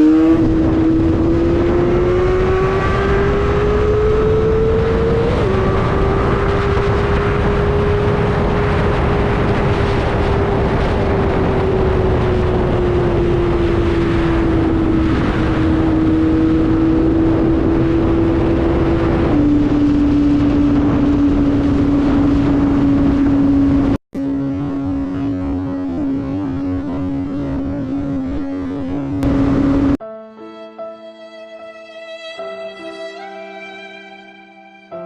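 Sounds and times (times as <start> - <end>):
motorcycle engine at high revs: 0.0 - 30.0
wind noise on microphone: 0.0 - 30.0.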